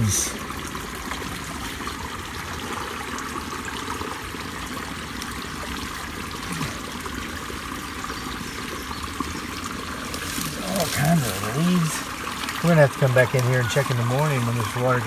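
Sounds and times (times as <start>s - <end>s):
water running and trickling: 0.0s - 15.0s.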